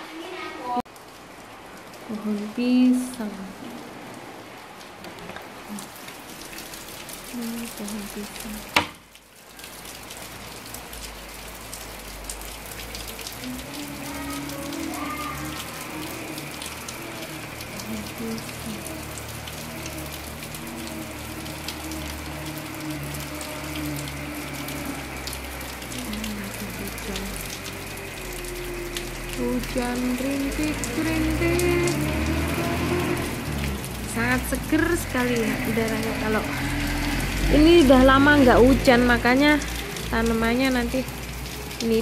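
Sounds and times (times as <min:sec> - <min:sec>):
light rain hissing: 0:00.0 - 0:42.0
raindrops ticking: 0:00.8 - 0:42.0.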